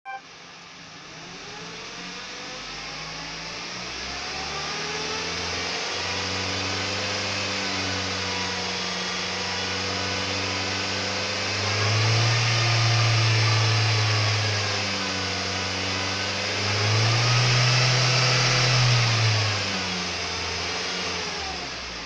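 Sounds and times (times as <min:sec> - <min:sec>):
car engine revving: 0:01.0 - 0:22.0.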